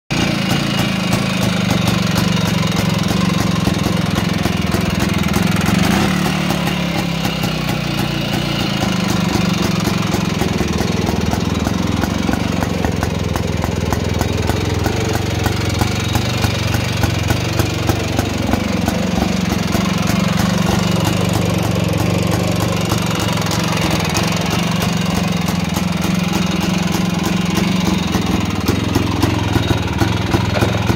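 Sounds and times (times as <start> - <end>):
two-stroke engine idling: 0.1 - 30.9.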